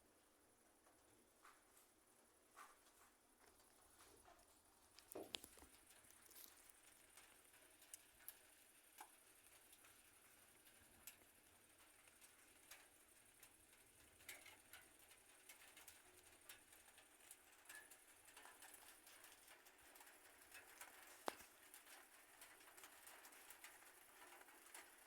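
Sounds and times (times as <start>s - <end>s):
faint ticks and taps: 0.6s - 25.0s.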